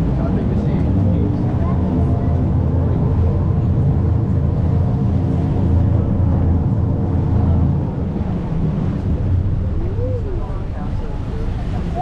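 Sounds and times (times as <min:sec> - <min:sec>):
boat diesel engine humming: 0:00.0 - 0:12.0.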